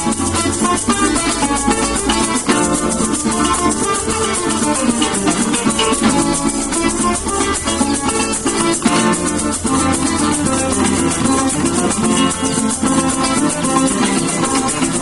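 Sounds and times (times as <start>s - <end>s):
maracas shaking: 0.0s - 15.0s
plucked strings playing lively tune: 0.0s - 15.0s.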